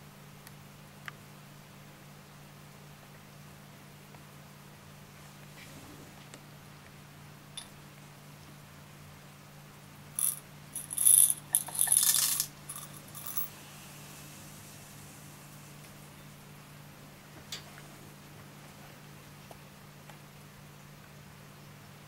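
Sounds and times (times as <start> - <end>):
steady low hum: 1.5 - 22.0.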